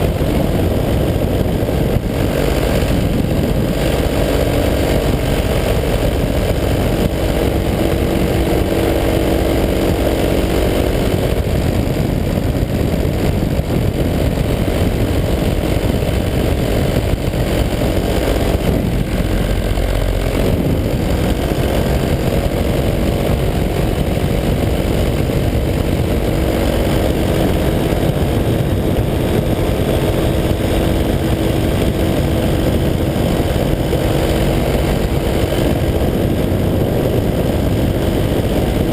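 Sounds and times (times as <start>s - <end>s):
paramotor engine running steadily: 0.0s - 38.9s.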